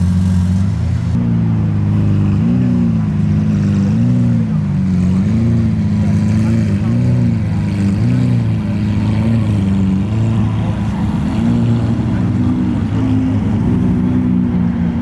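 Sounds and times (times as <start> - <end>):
car engine revving lightly: 0.0 - 15.0.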